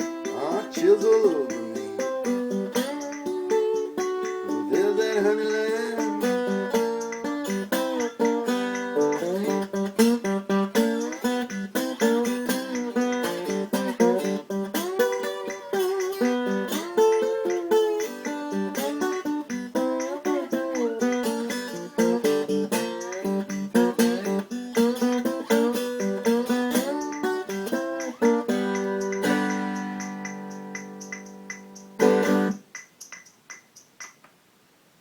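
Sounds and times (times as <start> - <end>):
acoustic guitar blues picking: 0.0 - 32.8.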